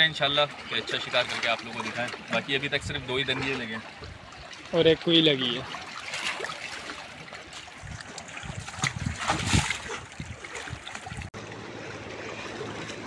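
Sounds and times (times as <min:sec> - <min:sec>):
water lapping against rocks: 0:00.0 - 0:13.0.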